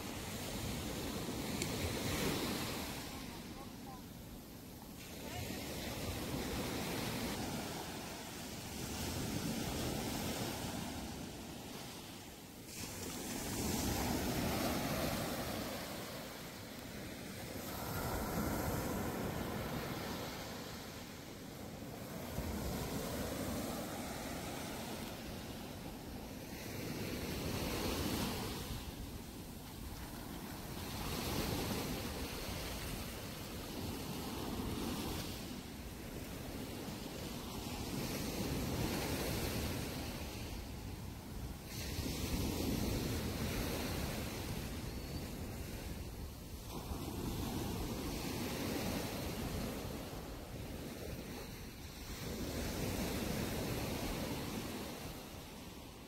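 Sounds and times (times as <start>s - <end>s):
surf washing onto beach: 0.0s - 56.0s.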